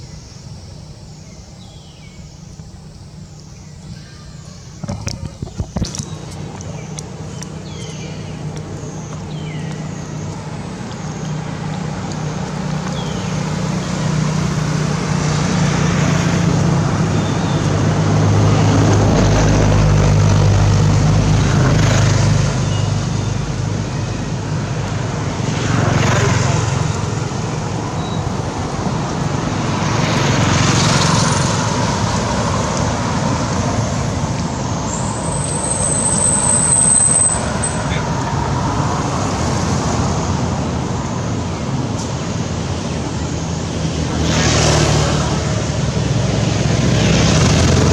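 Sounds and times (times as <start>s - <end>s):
vehicles passing on road: 0.0s - 47.9s.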